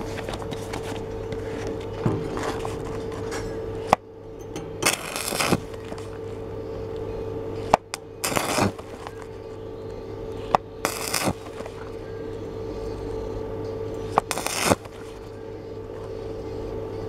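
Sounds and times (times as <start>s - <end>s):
steady electrical hum: 0.0s - 17.0s
crackling welding arc: 2.7s - 17.0s.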